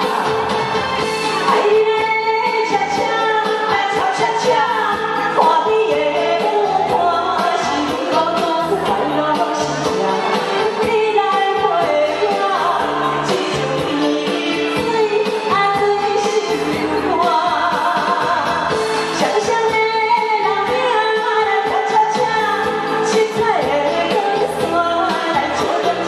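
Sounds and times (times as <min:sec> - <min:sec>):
amplified instrumental accompaniment: 0:00.0 - 0:26.0
woman singing pop song: 0:00.0 - 0:26.0.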